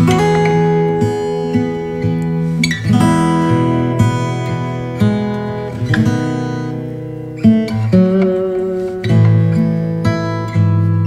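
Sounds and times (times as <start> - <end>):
acoustic guitar plucked and strummed: 0.0 - 11.0.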